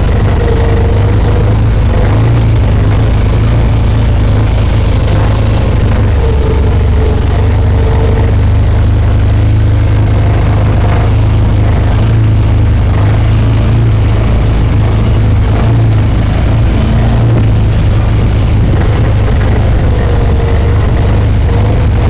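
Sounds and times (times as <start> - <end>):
engine low drone: 0.0 - 22.0.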